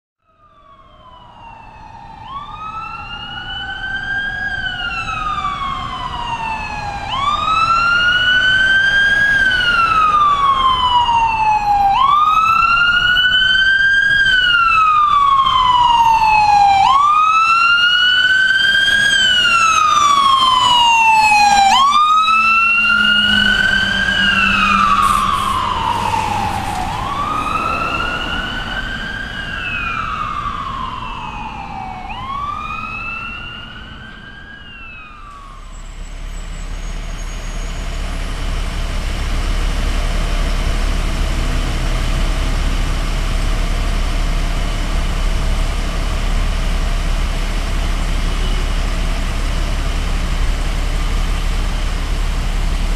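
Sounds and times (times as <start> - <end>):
ambulance siren wailing: 0.2 - 52.9
engine low hum: 0.5 - 52.9.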